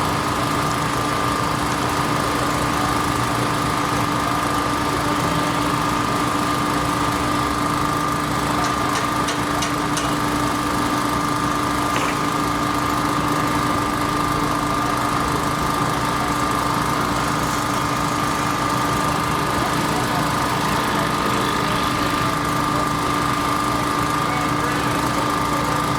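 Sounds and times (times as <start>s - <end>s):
construction machine engine running: 0.0s - 25.9s.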